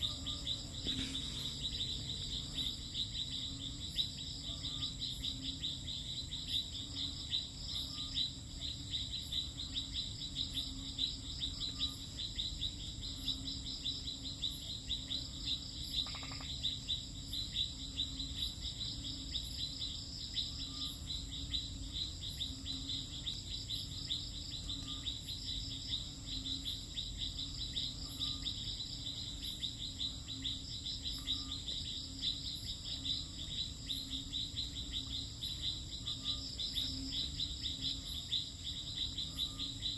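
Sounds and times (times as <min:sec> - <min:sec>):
crickets trilling: 0:00.0 - 0:39.9
faint short insect call: 0:00.0 - 0:39.9.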